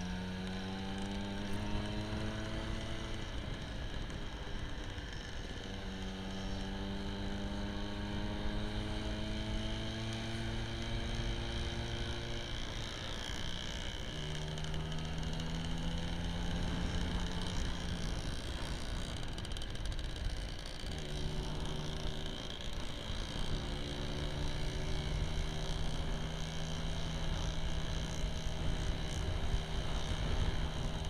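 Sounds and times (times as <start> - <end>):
scooter engine accelerating: 0.0 - 31.0
wind and road noise: 0.0 - 31.0.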